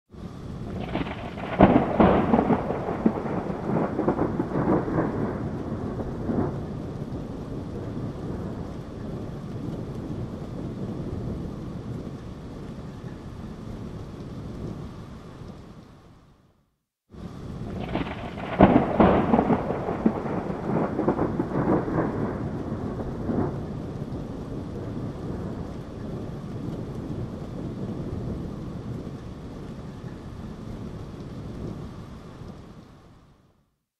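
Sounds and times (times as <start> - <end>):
thunder crackling and rumbling: 0.1 - 16.4, 17.1 - 33.4
steady rain: 0.1 - 33.8.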